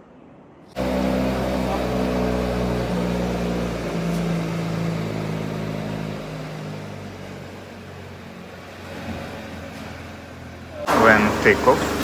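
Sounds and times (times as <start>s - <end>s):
car engine running: 0.8s - 12.0s.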